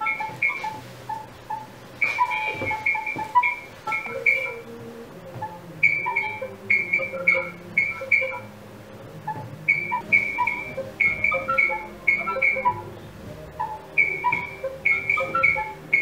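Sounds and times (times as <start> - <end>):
clear chiming notes: 0.0 - 16.0.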